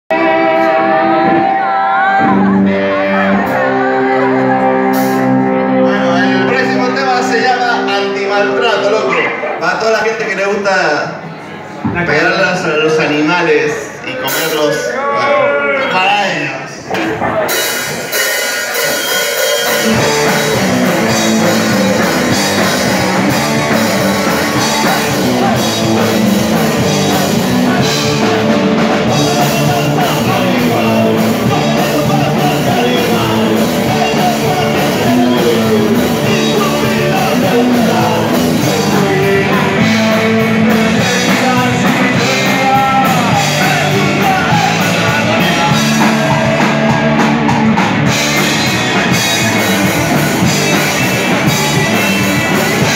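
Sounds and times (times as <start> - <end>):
drum kit: 0.1 - 8.9, 16.8 - 52.9
electric guitar: 0.1 - 9.6, 16.8 - 52.9.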